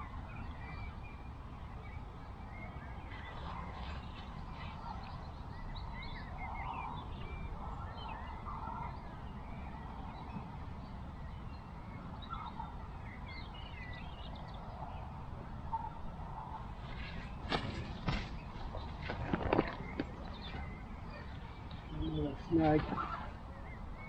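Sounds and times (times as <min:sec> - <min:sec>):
birds chirping and warbling: 0:00.0 - 0:24.0
wind rumble on microphone: 0:00.0 - 0:24.0.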